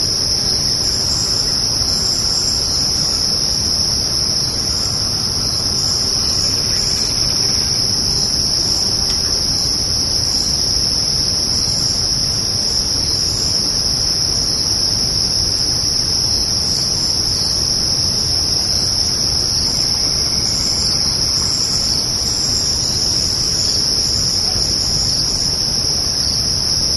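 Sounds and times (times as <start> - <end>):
crickets trilling: 0.0 - 26.9.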